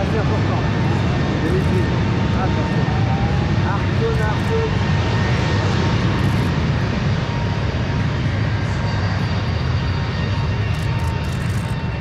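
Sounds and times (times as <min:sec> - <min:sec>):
jet engines rumbling at takeoff: 0:00.0 - 0:12.0.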